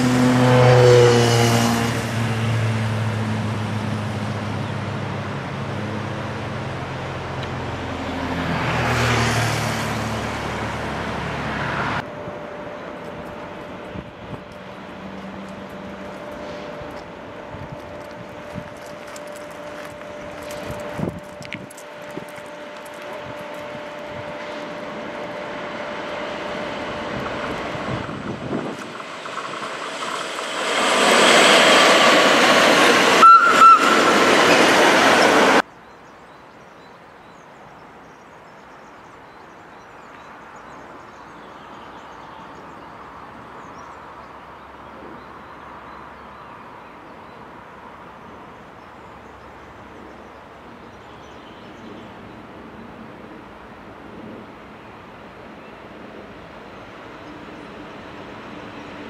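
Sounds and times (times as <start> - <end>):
distant train rumble: 0.0 - 35.7, 38.3 - 59.0
electric locomotive passing: 0.0 - 35.7, 45.7 - 59.0.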